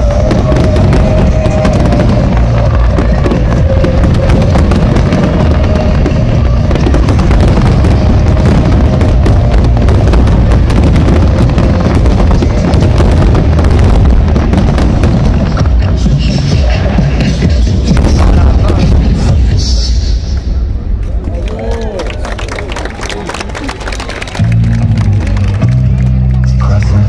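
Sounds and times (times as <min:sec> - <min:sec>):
music playing: 0:00.0 - 0:21.3, 0:22.5 - 0:27.0
fireworks bursting and crackling: 0:00.0 - 0:26.5.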